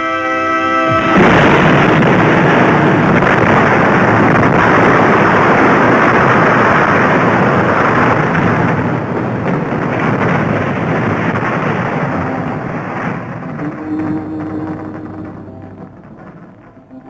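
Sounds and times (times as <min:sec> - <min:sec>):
explosion rumble: 0:00.9 - 0:17.0.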